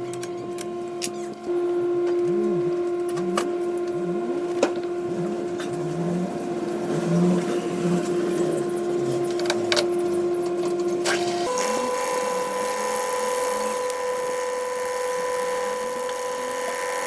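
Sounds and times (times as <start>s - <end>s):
lathe whining: 0.8s - 17.0s.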